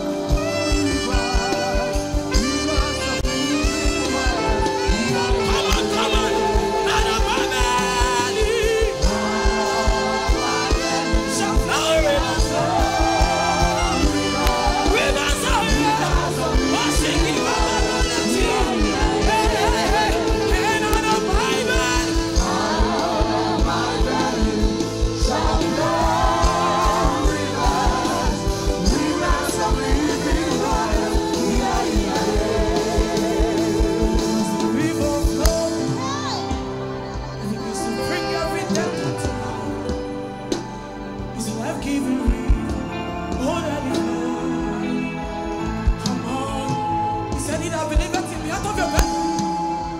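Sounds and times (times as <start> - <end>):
band playing a steady beat: 0.0 - 49.9.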